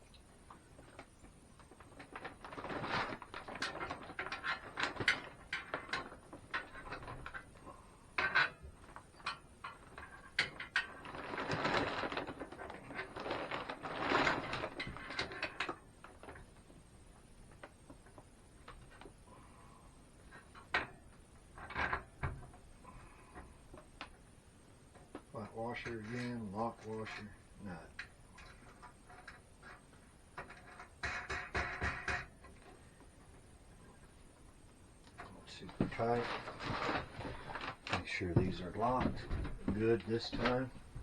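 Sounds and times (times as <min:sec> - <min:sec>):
rustling and knocking: 0:00.5 - 0:07.6, 0:08.2 - 0:19.2, 0:20.2 - 0:24.2, 0:28.0 - 0:41.0.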